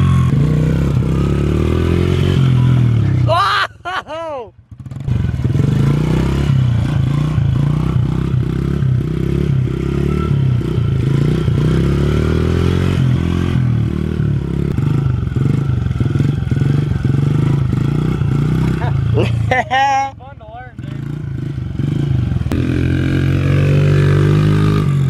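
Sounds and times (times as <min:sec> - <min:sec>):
dirt bike engine revving: 0:00.0 - 0:03.6, 0:04.7 - 0:25.0.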